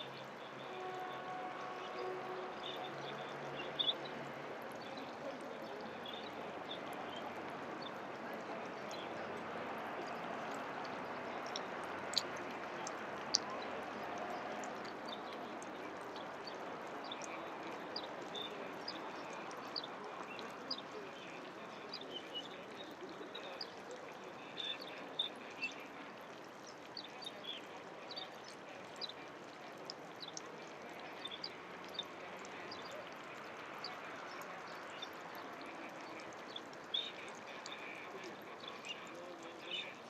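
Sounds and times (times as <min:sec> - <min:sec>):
birds chirping: 0:00.0 - 0:13.8, 0:14.4 - 0:40.0.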